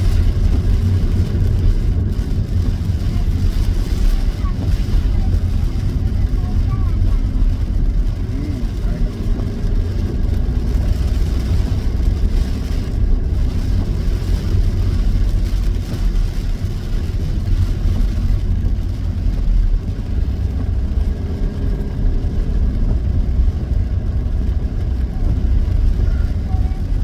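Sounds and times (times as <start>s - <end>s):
road vehicle driving rumble: 0.0s - 27.0s.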